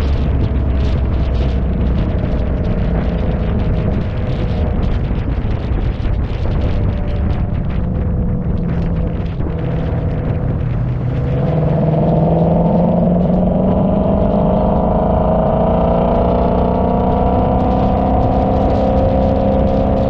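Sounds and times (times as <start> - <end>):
car engine pulling: 0.0 - 20.0
constant low rumble: 0.0 - 20.0.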